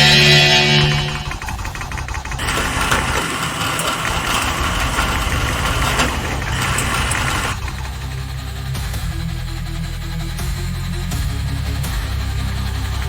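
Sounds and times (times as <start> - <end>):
mechanical whirring: 0.0 - 13.0.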